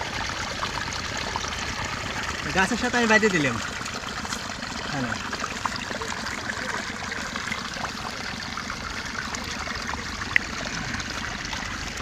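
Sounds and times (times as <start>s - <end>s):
water trickling through mud: 0.0s - 12.0s.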